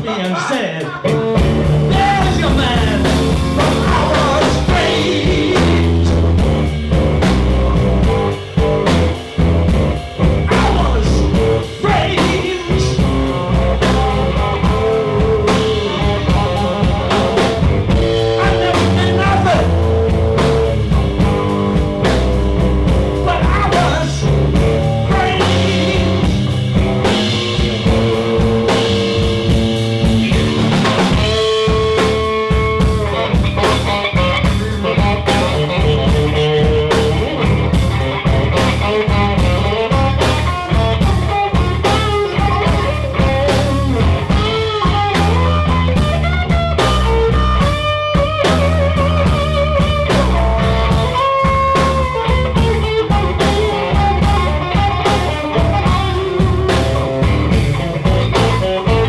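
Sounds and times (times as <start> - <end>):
drums: 0.0 - 59.0
lead guitar with bent notes: 0.0 - 59.0
bass line: 1.0 - 59.0.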